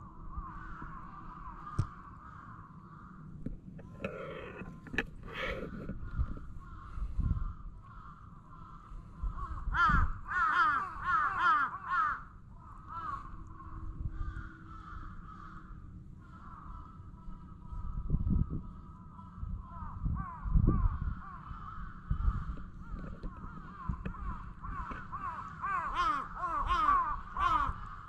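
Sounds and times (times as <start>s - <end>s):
crows cawing: 0.0s - 28.0s.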